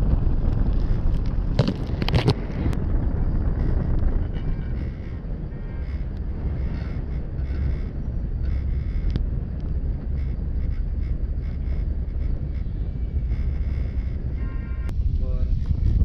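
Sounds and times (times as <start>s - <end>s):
cable car low rumble: 0.0s - 16.0s
wind buffeting the microphone: 0.0s - 16.0s.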